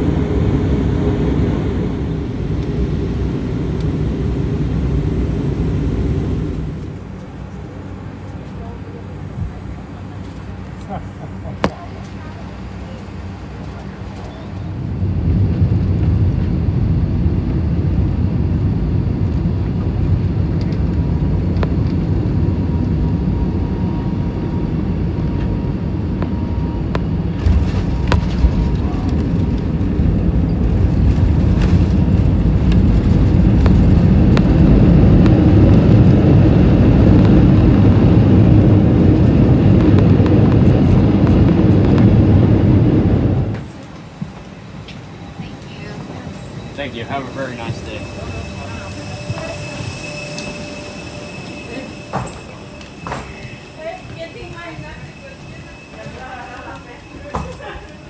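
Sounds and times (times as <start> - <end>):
jet engines and wheels rumbling: 0.0 - 58.0.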